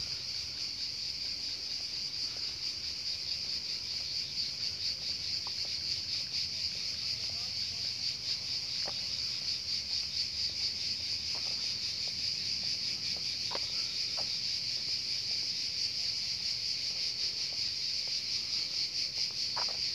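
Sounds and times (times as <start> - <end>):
cicadas buzzing: 0.0 - 19.9.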